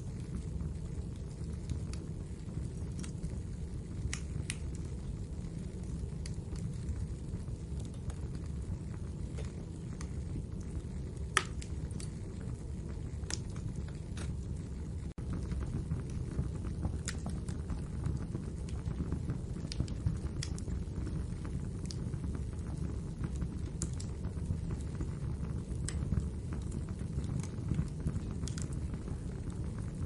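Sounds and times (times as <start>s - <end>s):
fire crackles and pops: 0.0s - 30.0s
fire flames rumbling: 0.0s - 30.0s.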